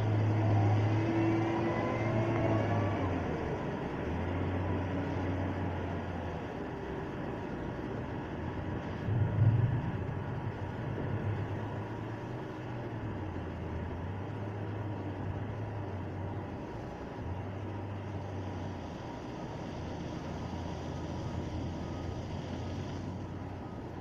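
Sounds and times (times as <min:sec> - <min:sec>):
heavy vehicle engine humming: 0:00.0 - 0:24.0.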